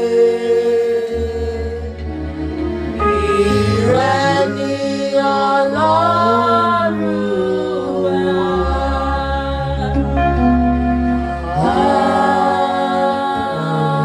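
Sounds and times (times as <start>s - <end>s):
person singing slow worship melody: 0.0s - 14.0s
sustained low chords: 0.6s - 14.0s.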